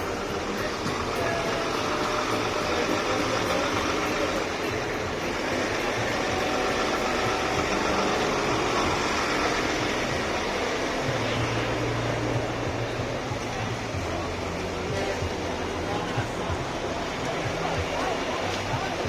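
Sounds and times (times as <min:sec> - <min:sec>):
deep steady engine hum: 0:00.0 - 0:19.0
traffic noise: 0:00.0 - 0:19.0
trucks idling: 0:00.0 - 0:19.0.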